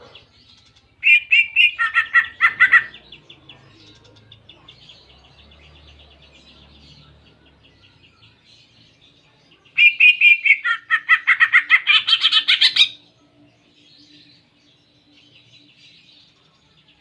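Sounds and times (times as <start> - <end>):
bird singing with trills: 0.0 - 17.0.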